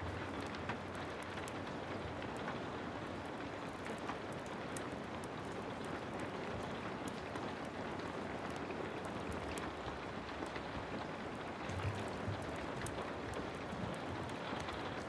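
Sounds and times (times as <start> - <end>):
heavy rain falling: 0.0 - 15.0
wood fire crackling: 0.0 - 15.0.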